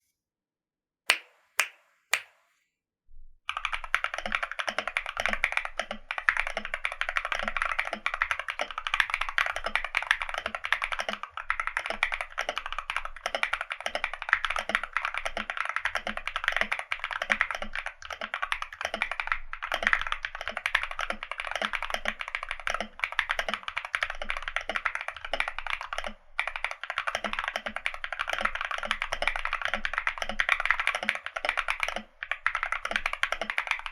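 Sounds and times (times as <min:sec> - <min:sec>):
typing on mechanical keyboard: 0:03.5 - 0:33.9.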